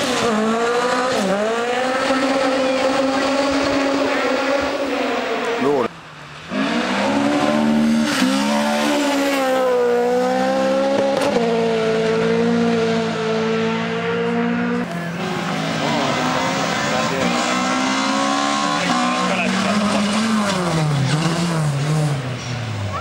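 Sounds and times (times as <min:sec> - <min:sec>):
rally car engine at high revs: 0:00.0 - 0:22.8.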